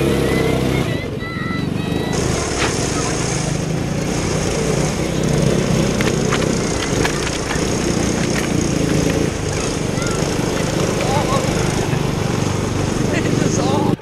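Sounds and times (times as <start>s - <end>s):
small gas engine running: 0.0s - 14.0s.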